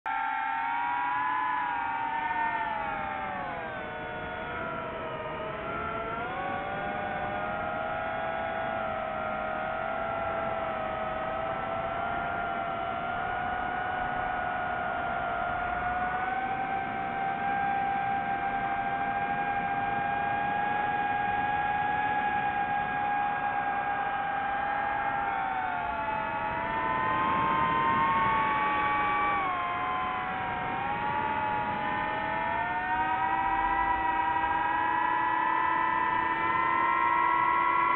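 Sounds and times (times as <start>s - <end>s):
drone propellers whining: 0.1s - 37.9s.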